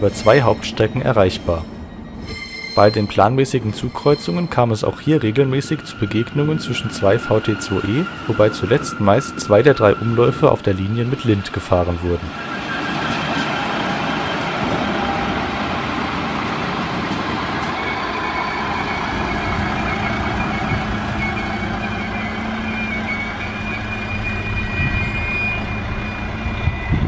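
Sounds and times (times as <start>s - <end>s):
high whine: 0.0s - 12.4s, 13.2s - 27.0s
diesel train engine: 0.0s - 27.0s
wheels rumbling on rails: 0.0s - 27.0s.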